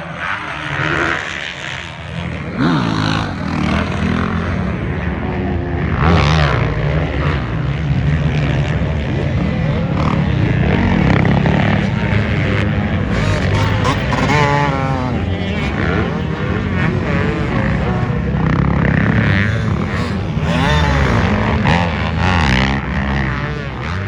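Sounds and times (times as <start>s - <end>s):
off-road racing engines revving: 0.0s - 24.0s.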